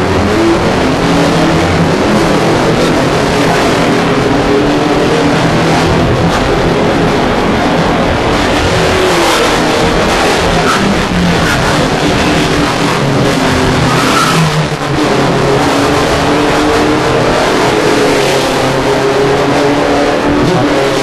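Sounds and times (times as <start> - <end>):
dense rushing noise: 0.0 - 21.0
race car engines running: 0.0 - 21.0.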